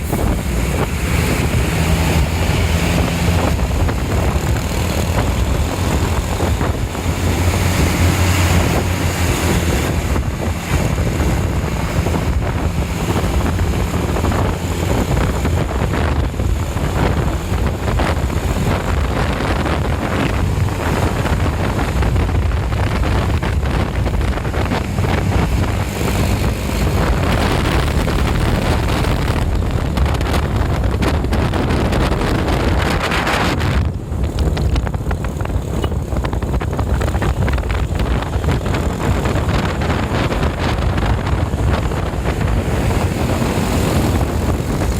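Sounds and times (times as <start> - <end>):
vehicle engine rumbling: 0.0 - 44.9
wind buffeting microphone: 0.0 - 44.9.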